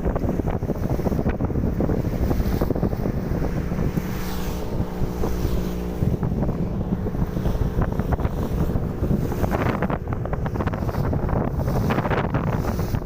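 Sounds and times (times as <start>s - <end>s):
steady hum: 0.0s - 13.0s
wind buffeting the microphone: 0.0s - 13.0s.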